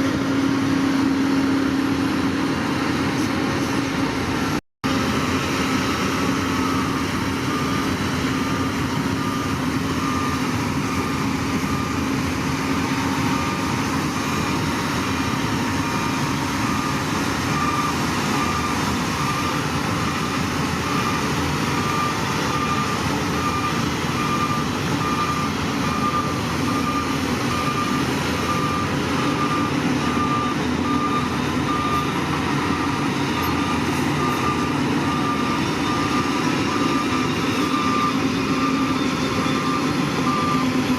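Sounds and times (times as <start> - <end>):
diesel engine running: 0.0 - 40.9
reversing alarm beeping: 3.8 - 40.9.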